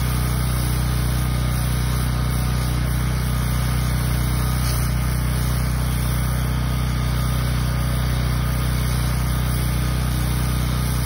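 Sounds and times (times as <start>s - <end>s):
pressure washer engine running: 0.0s - 11.0s
water jet hissing on concrete: 0.0s - 11.0s.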